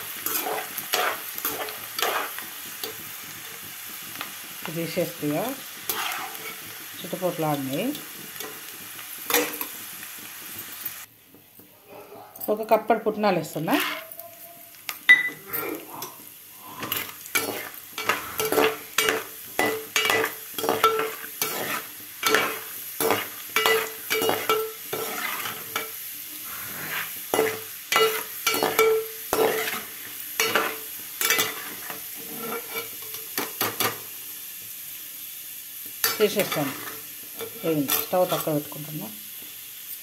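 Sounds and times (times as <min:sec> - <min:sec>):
food sizzling in hot oil: 0:00.0 - 0:11.5, 0:12.4 - 0:40.0.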